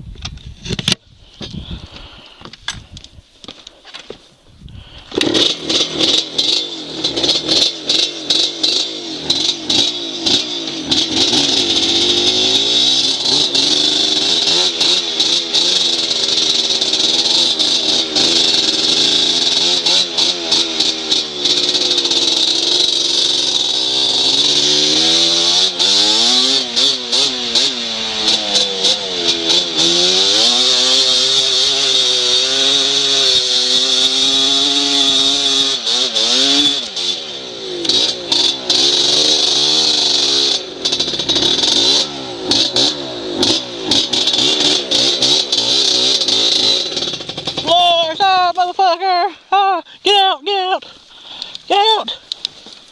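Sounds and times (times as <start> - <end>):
dirt bike engine revving: 4.8 - 52.9.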